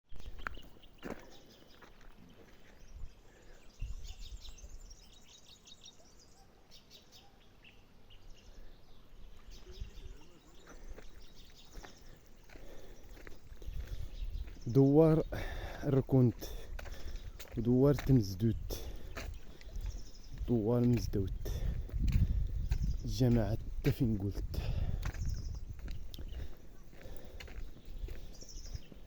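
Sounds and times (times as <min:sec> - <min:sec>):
small birds chirping: 0:00.1 - 0:29.0.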